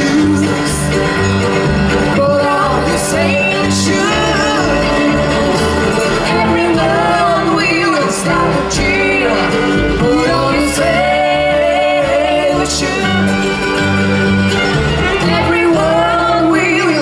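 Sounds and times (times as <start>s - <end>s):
live country band playing: 0.0s - 17.0s
person singing: 0.0s - 17.0s.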